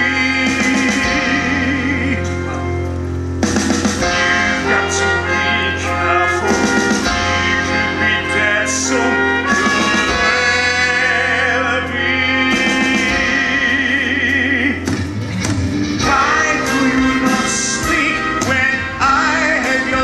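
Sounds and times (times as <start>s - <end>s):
pit orchestra with brass: 0.0s - 20.0s.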